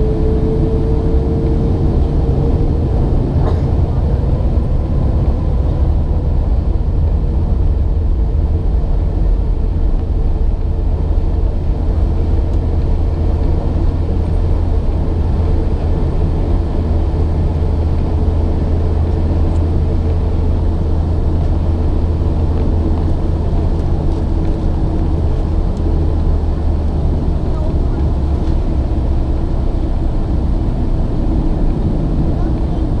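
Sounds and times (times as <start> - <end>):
airplane engine drone: 0.0 - 33.0.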